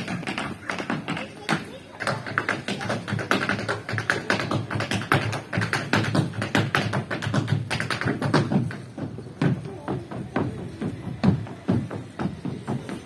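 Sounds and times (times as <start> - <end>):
tap shoes striking hard floor: 0.0 - 13.0.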